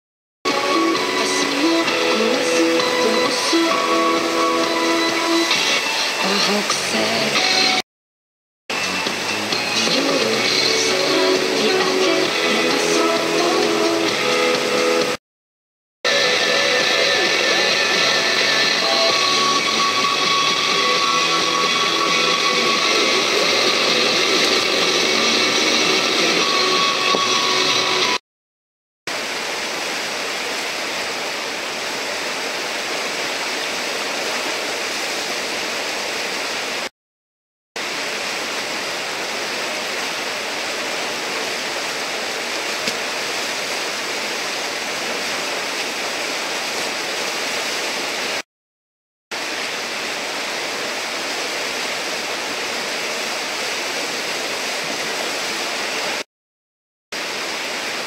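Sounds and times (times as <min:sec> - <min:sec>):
whitewater roaring: 0:00.5 - 0:07.8, 0:08.7 - 0:15.2, 0:16.1 - 0:28.2, 0:29.1 - 0:36.9, 0:37.8 - 0:48.4, 0:49.4 - 0:56.2.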